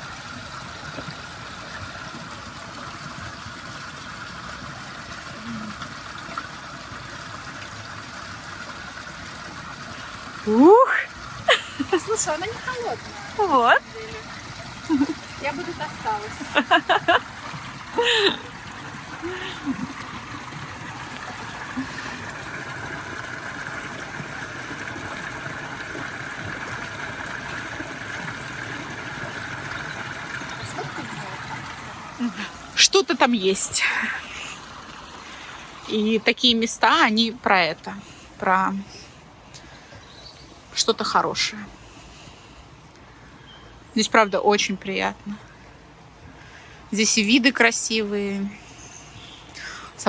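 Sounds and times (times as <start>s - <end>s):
stream water running: 0.0s - 50.0s.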